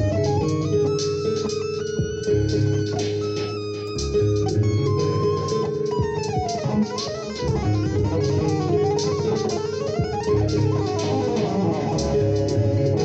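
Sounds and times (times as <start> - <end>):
electric guitar tapping runs: 0.0 - 13.0.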